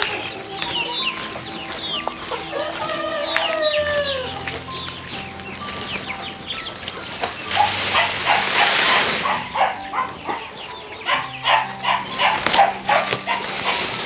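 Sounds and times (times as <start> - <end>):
cut grass rustling: 0.0 - 14.0.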